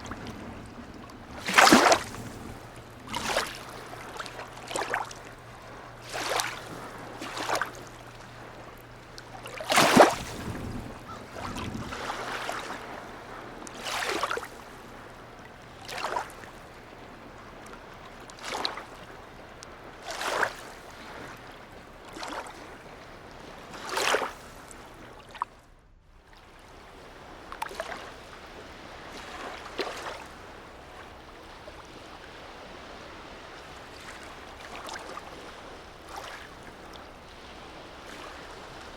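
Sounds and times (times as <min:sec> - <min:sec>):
small waves splashing: 0:00.0 - 0:38.9.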